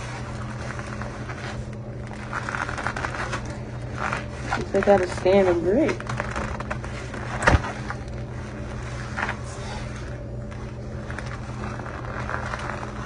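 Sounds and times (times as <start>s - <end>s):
low mechanical hum: 0.0s - 13.0s
soft rustles and clicks: 0.0s - 13.0s.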